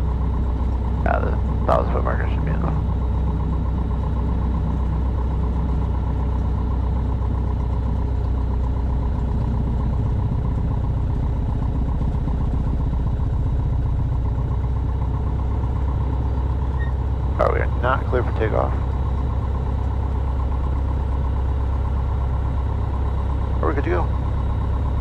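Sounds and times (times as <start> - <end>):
small plane engine droning: 0.0 - 25.0.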